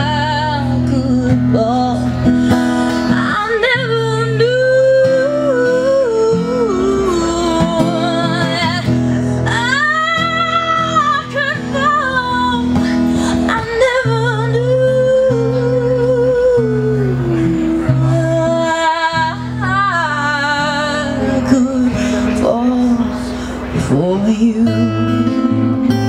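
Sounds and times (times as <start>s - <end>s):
acoustic guitar accompaniment: 0.0s - 26.0s
woman singing slow song: 0.0s - 26.0s.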